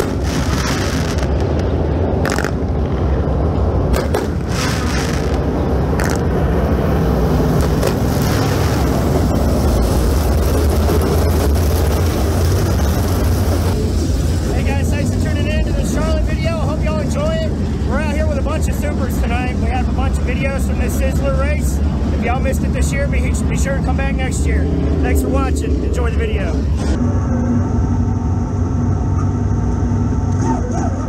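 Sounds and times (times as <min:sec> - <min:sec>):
race car engines running hard: 0:00.0 - 0:31.0.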